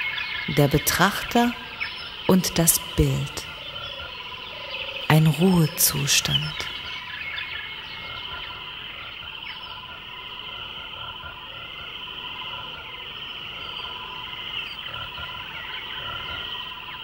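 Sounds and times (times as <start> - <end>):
high chirring animal calls: 0.0 - 17.0
low pulsing animal call: 0.0 - 17.0.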